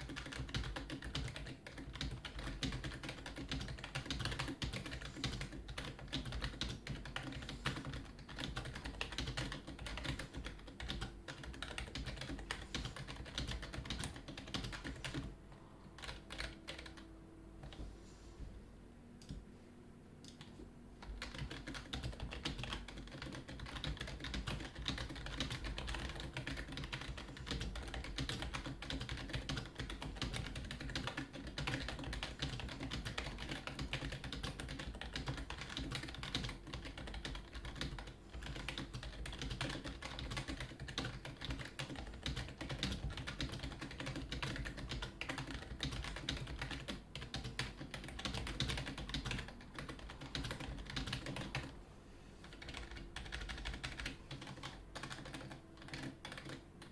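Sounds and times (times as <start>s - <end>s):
keyboard typing: 0.0s - 15.3s, 16.0s - 17.9s, 20.2s - 51.7s, 52.4s - 56.9s.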